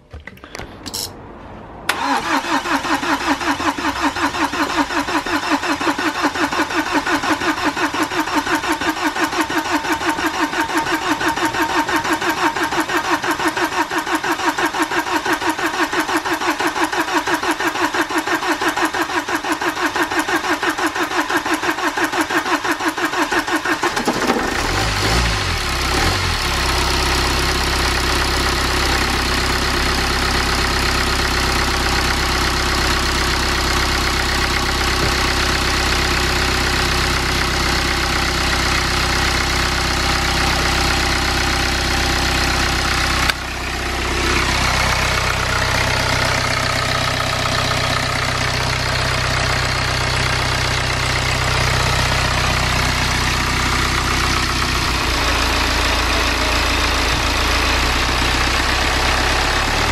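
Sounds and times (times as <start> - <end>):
diesel engine starting and idling: 0.0 - 59.9.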